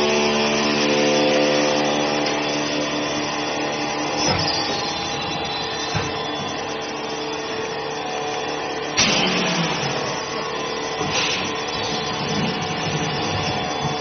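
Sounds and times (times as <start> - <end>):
packaging machine humming: 0.0 - 14.0.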